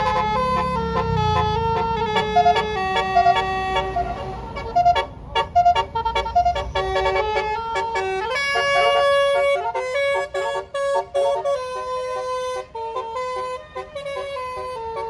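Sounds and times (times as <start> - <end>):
low engine rumble: 0.0 - 15.0
musical air horn playing a tune: 0.0 - 15.0.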